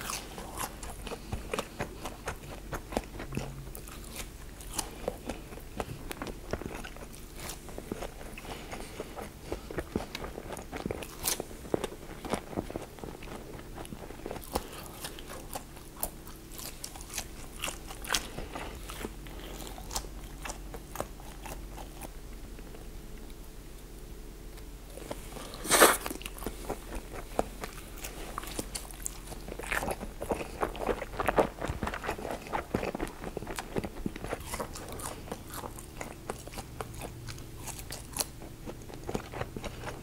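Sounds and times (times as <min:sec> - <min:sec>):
crunching and chewing crisp food: 0:00.0 - 0:40.0.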